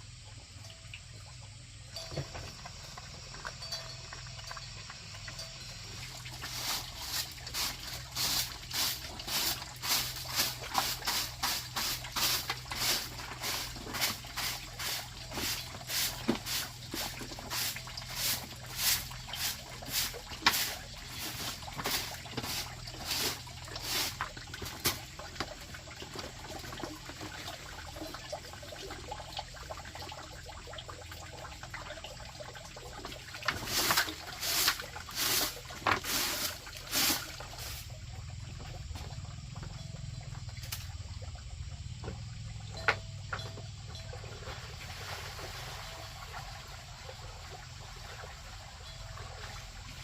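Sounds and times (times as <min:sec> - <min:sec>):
water splashing and sloshing: 0:00.0 - 0:50.0
water trickling: 0:00.0 - 0:50.0.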